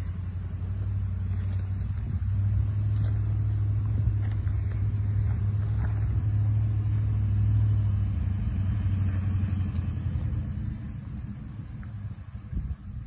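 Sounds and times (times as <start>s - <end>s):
engine rumbling at low revs: 0.0s - 13.0s.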